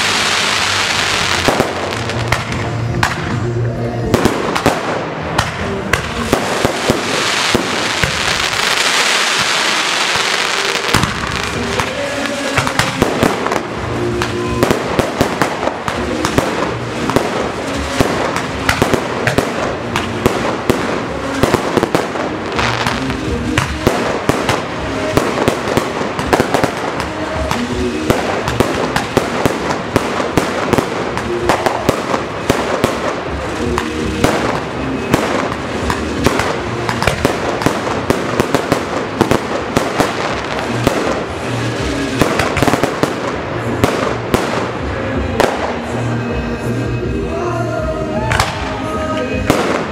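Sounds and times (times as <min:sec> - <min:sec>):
fireworks bursting: 0:00.0 - 0:47.3, 0:48.1 - 0:49.9
music playing: 0:00.0 - 0:49.9.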